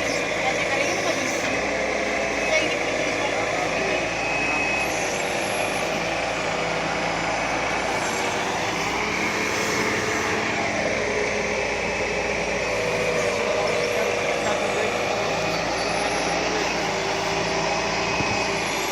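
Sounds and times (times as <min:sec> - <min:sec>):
backhoe diesel engine running: 0:00.0 - 0:18.9.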